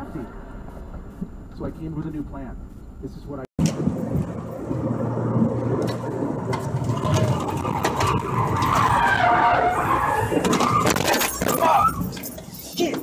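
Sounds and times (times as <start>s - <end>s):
low hum: 0.0s - 12.6s
car tyre and engine noise: 0.0s - 12.7s.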